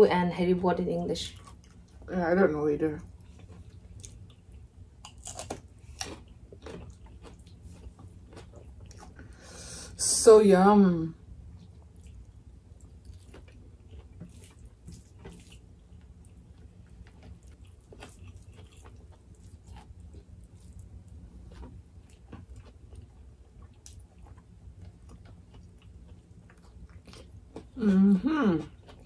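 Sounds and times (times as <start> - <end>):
low steady hum: 0.0 - 29.0
faint chewing: 1.2 - 2.1, 3.0 - 9.4, 11.5 - 29.0.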